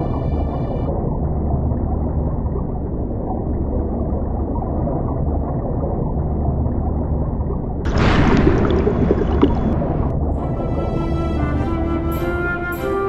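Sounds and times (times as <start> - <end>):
constant low hum: 0.0 - 11.4
deep rumbling drone: 0.0 - 12.5.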